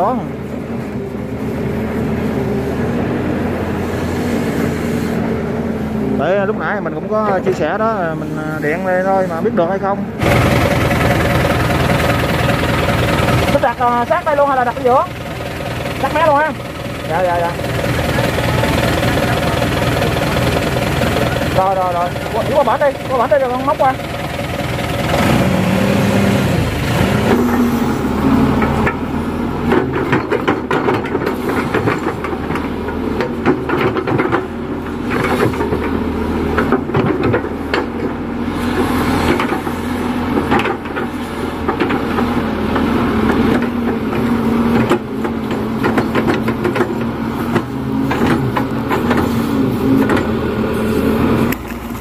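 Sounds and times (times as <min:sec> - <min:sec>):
excavator diesel engine: 0:00.0 - 0:52.0.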